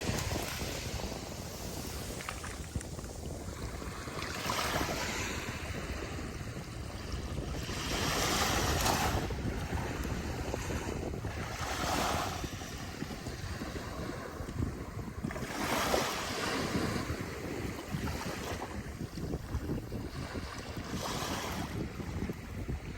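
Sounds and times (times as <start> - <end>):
ocean surf breaking on beach: 0.0 - 19.2.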